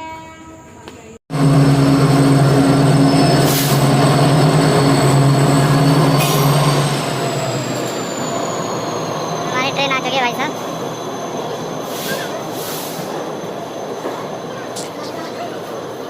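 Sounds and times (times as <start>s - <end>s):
train low drone: 0.6s - 16.0s
train wheels and brakes squealing: 1.6s - 16.0s.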